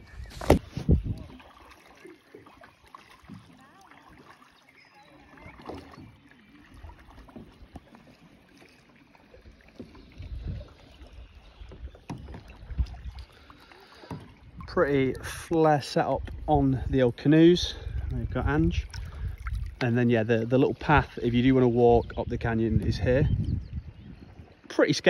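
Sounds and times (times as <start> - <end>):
paddle strokes splashing: 0.0 - 21.8.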